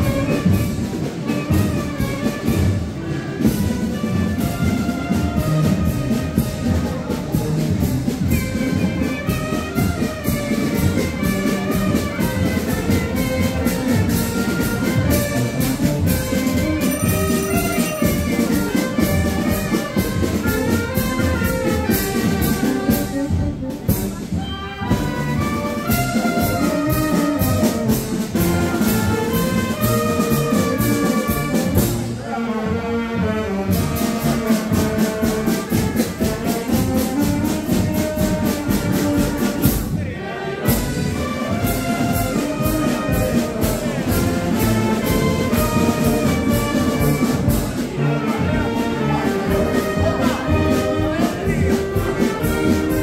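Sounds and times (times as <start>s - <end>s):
drum beat: 0.0s - 32.1s, 33.8s - 40.0s, 40.7s - 53.0s
brass band playing a march: 0.0s - 53.0s.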